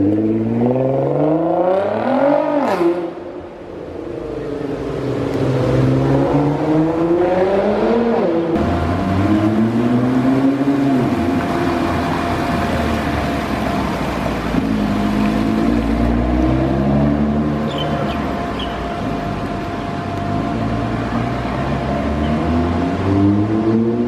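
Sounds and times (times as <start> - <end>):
car engines accelerating: 0.0 - 24.0.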